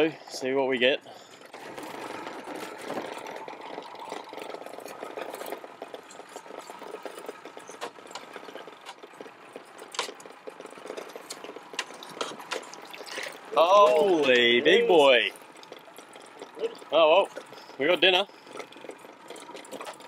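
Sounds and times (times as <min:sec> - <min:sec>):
wet rope hauled with rattle: 0:01.3 - 0:20.0.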